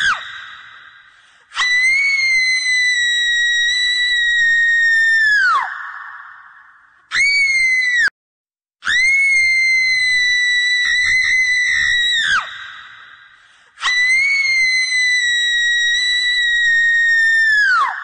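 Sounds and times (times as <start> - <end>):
shrill screams: 1.5 - 8.1, 8.8 - 13.0, 13.8 - 18.0.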